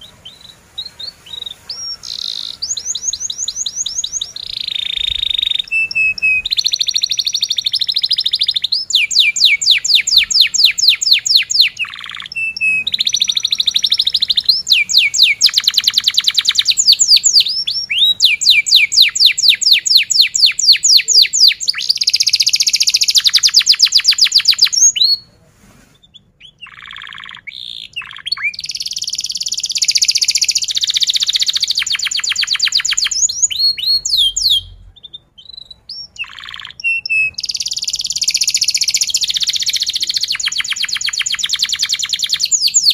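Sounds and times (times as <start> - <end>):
canary singing trills: 0.0 - 25.3, 26.0 - 42.9.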